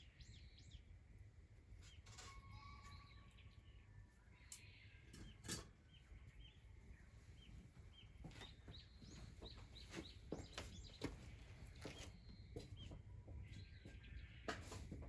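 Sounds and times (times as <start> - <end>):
small bird chirping: 1.8 - 14.9.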